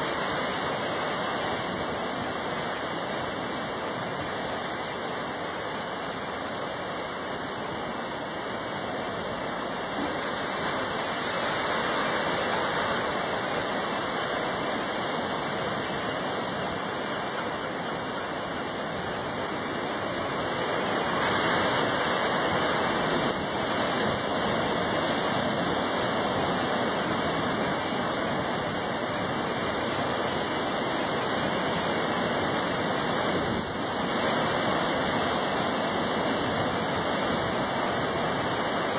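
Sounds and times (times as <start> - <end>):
ocean surf on rocks: 0.0 - 38.9.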